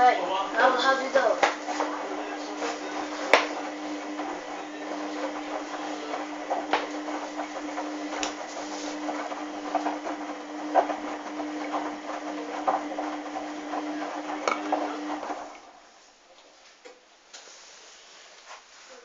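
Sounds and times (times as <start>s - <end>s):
washing machine motor humming: 0.0s - 15.9s.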